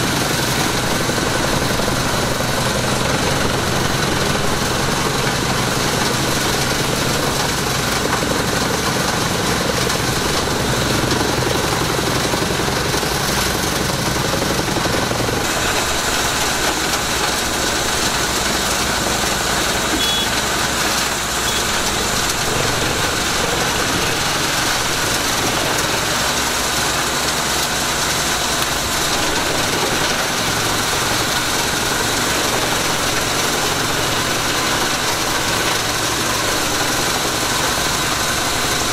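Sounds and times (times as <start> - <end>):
tractor diesel engine: 0.0 - 38.9
wood chipper chipping branches: 0.0 - 38.9.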